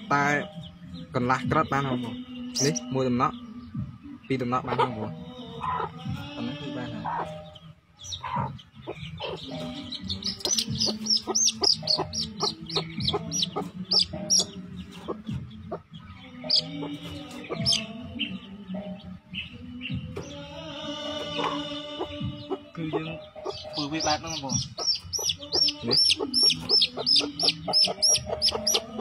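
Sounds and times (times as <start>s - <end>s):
chickens squawking and clucking: 4.6s - 29.0s.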